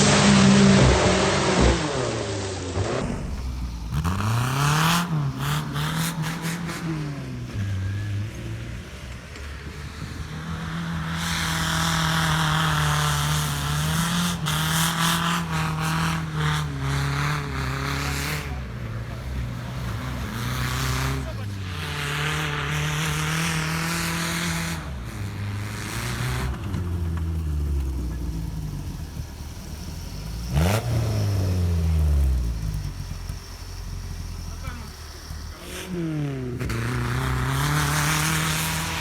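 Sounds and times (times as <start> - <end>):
off-road vehicle engine revving: 0.0 - 39.0.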